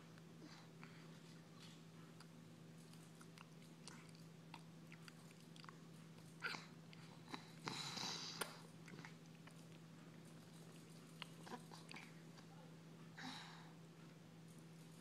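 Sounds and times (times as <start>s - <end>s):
steady low hum: 0.0s - 15.0s
baby chewing and smacking: 0.1s - 12.5s.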